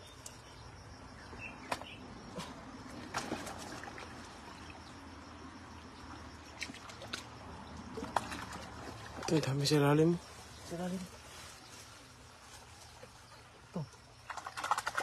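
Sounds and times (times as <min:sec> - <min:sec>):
stream water trickling over rocks: 0:00.0 - 0:15.0.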